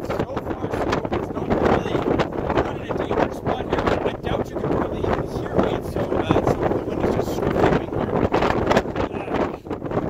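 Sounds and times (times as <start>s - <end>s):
extreme wind buffeting microphone: 0.0s - 10.0s.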